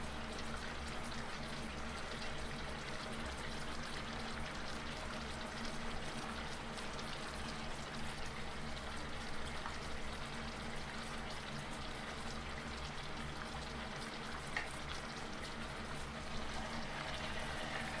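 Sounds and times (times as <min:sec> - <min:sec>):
broth bubbling in a pan: 0:00.0 - 0:18.0.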